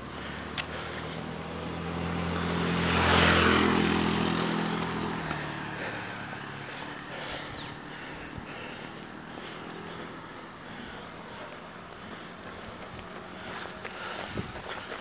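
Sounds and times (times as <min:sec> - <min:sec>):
motorcycle passing by: 0:00.0 - 0:15.0.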